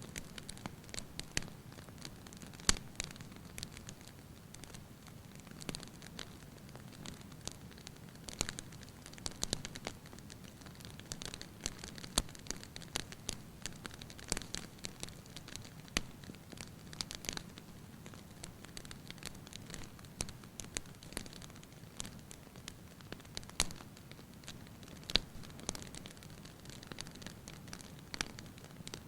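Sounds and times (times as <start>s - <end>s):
faint low rumble of flames: 0.0s - 29.0s
wood fire popping and snapping: 0.0s - 29.0s.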